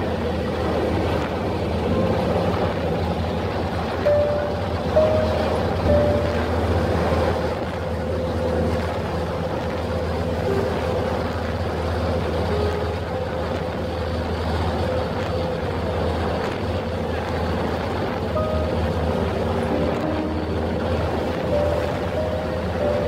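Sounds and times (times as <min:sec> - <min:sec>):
ferry engine drone: 0:00.0 - 0:23.0
wind: 0:00.0 - 0:23.0.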